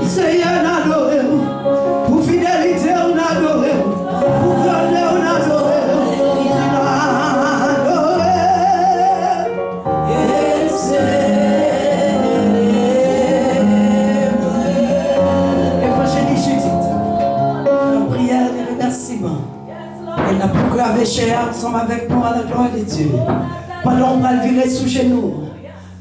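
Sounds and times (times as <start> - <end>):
gospel singing: 0.0 - 26.0
instrumental accompaniment: 0.0 - 26.0.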